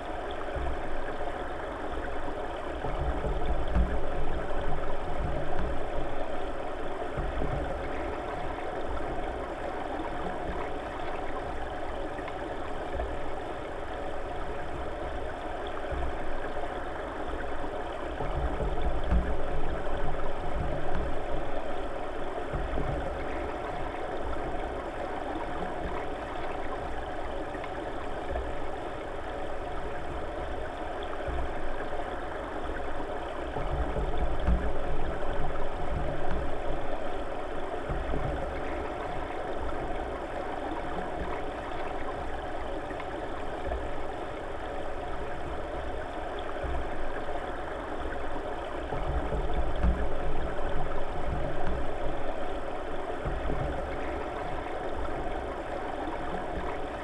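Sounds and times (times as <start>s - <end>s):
faint steady hum: 0.0s - 57.0s
underwater river current rushing: 0.0s - 57.0s.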